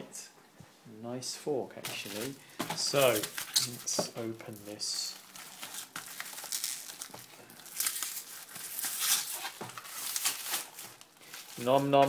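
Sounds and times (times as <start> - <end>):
plastic wrapping crinkling: 1.8 - 12.0.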